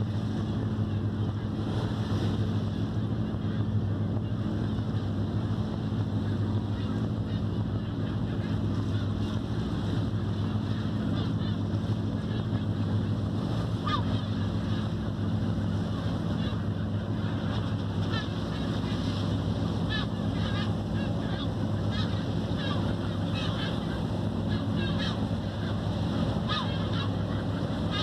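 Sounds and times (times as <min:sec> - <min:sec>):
boat engine humming: 0:00.0 - 0:28.0
gulls calling: 0:00.0 - 0:28.0
water noise: 0:00.0 - 0:28.0
wind: 0:00.0 - 0:28.0.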